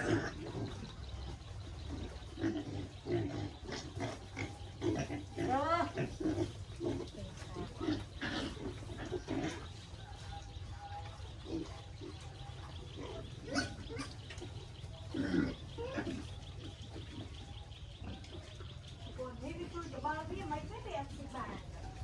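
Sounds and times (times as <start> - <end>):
pigs grunting and squealing: 0.0 - 22.0.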